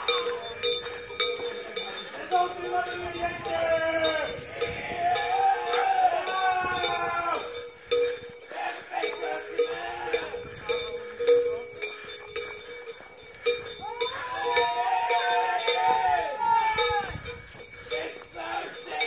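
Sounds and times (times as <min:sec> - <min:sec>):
cowbells clanking and ringing: 0:00.0 - 0:19.0
steady ringing tone: 0:00.0 - 0:19.0.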